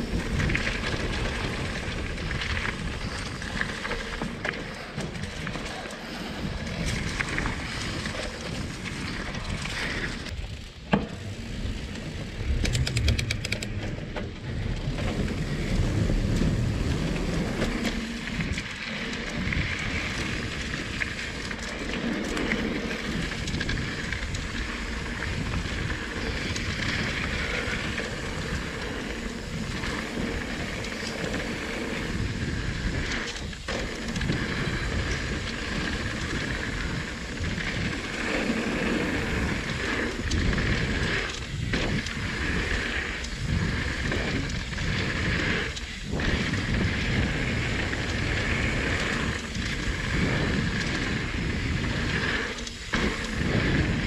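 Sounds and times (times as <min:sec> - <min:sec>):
bike rattling: 0:00.0 - 0:54.0
bike tyres rolling on dirt: 0:00.0 - 0:54.0
wind on microphone: 0:00.0 - 0:54.0.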